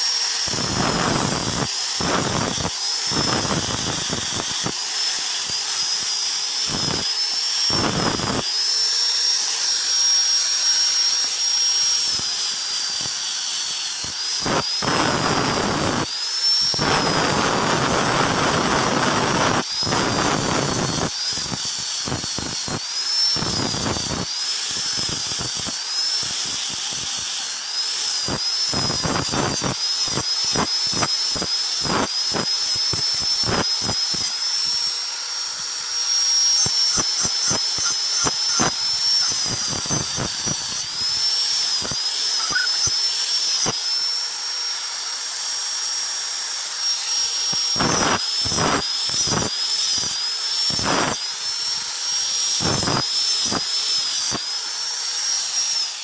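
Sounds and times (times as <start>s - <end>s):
angle grinder whine: 0.0s - 56.0s.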